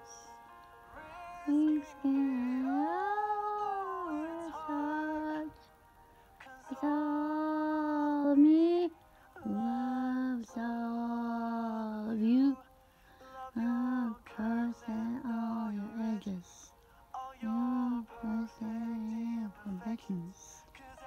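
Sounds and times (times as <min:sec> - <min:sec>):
woman singing long notes: 0:01.0 - 0:05.7, 0:06.5 - 0:12.7, 0:13.5 - 0:16.8, 0:17.4 - 0:20.7.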